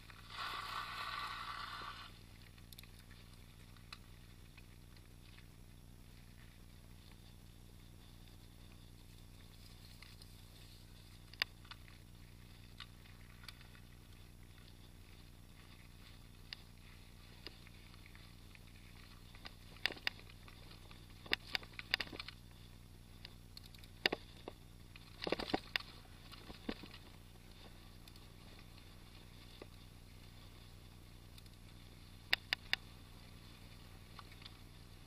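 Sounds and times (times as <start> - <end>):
bike rattling over gravel: 0.0 - 6.8, 8.8 - 22.8, 23.4 - 35.0
faint hum: 0.0 - 35.0.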